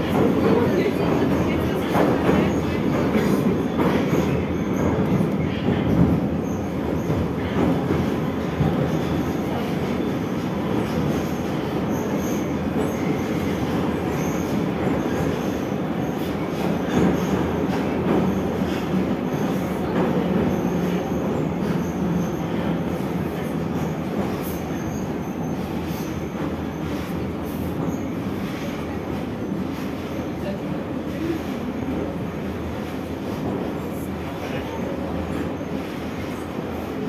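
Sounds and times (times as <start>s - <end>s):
train wheels rumbling: 0.0s - 37.0s.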